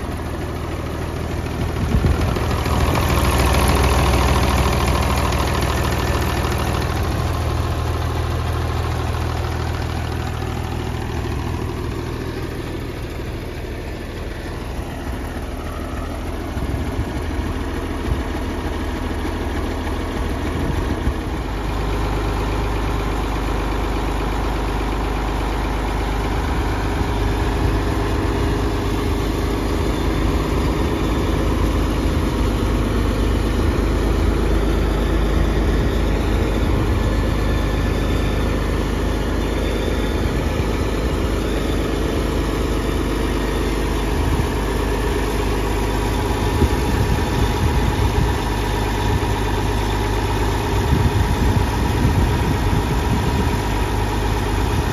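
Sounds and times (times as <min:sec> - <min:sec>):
tractor engine idling: 0:00.0 - 0:54.9.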